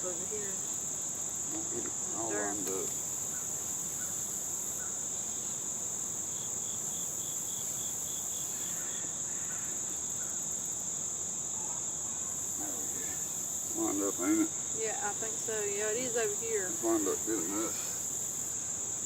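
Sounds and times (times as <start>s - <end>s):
insects trilling: 0.0s - 19.0s
short insect chirps: 0.0s - 19.0s.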